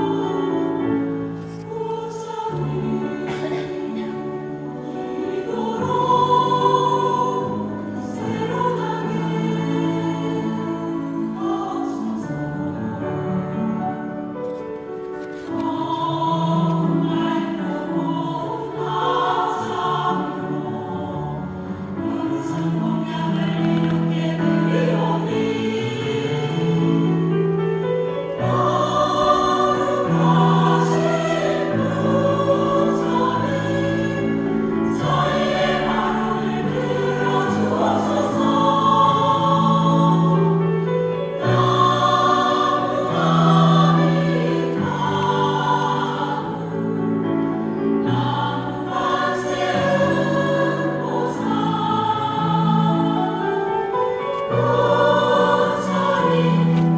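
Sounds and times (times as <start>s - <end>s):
choir singing a slow hymn: 0.0s - 56.9s.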